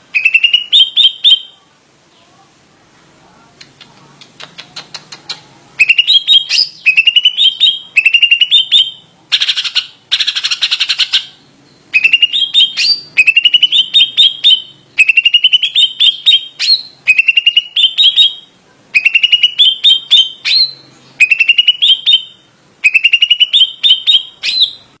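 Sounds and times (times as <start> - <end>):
bird whistling phrases: 0.1 - 1.6, 5.2 - 24.9.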